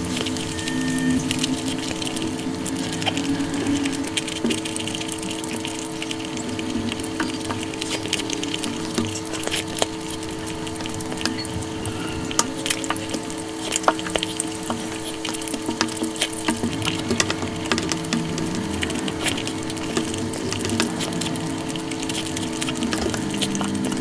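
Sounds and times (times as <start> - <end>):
chewing and mouth clicks: 0.0 - 24.0
fingers squelching in food: 0.0 - 24.0
steady low hum: 0.0 - 24.0.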